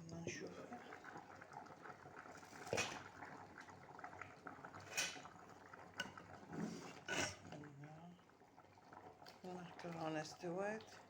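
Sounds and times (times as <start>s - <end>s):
soup bubbling at the boil: 0.0s - 11.0s.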